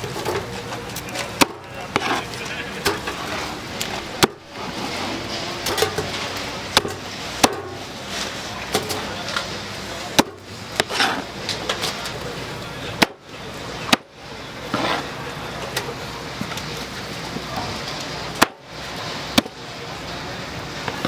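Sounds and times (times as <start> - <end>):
background voices: 0.0 - 21.0
street noise: 0.0 - 21.0.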